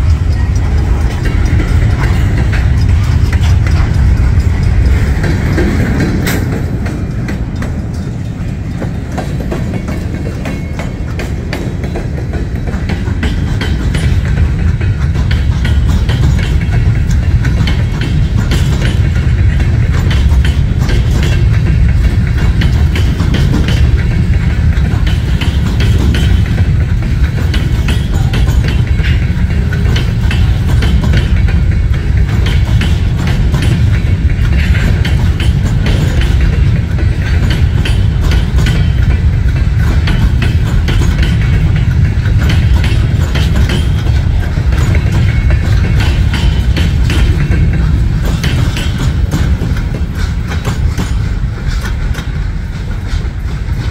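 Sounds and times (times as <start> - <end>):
freight train rumbling past: 0.0 - 53.9
steel wheels clanking over rails: 0.0 - 53.9.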